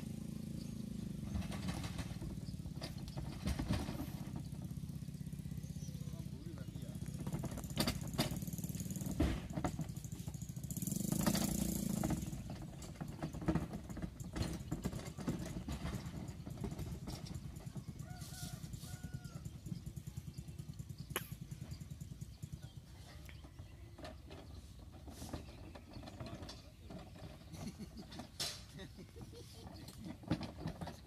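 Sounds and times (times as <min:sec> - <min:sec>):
engine idling: 0:00.0 - 0:31.0
knocks and clatter: 0:00.1 - 0:31.0.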